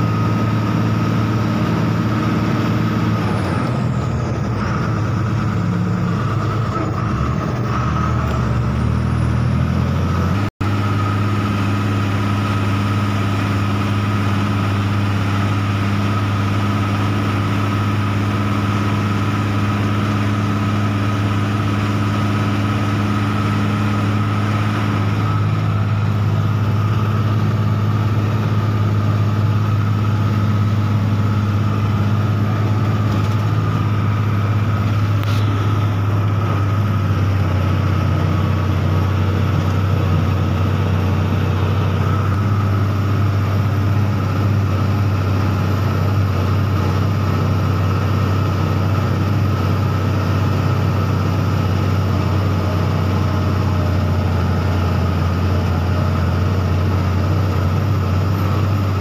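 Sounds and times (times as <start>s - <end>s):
vehicle engine low drone: 0.0s - 59.0s.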